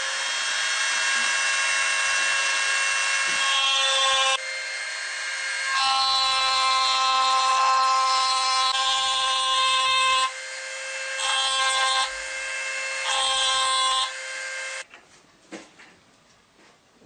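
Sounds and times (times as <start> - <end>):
power tool whining on wood: 0.0 - 14.9.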